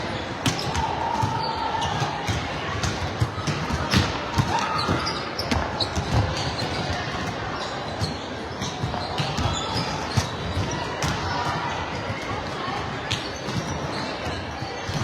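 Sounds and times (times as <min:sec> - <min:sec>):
chatter of players and spectators: 0:00.0 - 0:15.0.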